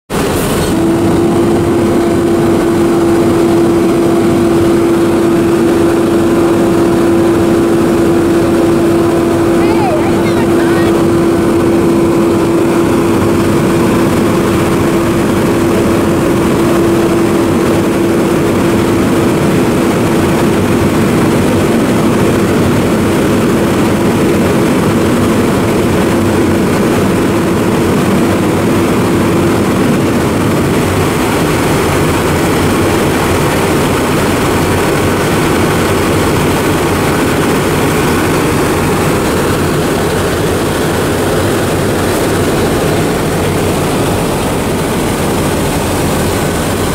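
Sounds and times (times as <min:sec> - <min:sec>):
diesel engine drone: 0:00.1 - 0:46.9
steady whine: 0:00.1 - 0:46.9.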